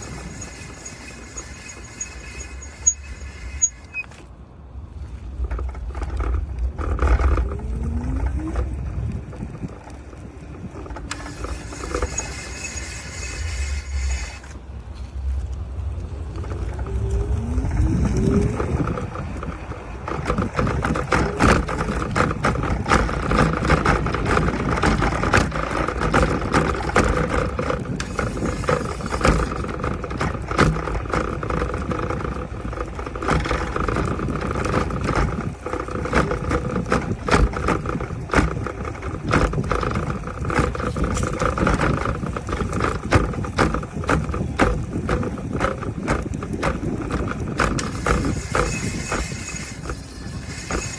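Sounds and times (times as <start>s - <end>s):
electric scooter motor whine: 0.0s - 50.9s
road rumble: 0.0s - 50.9s
wheel rattling and clicking: 0.0s - 50.9s.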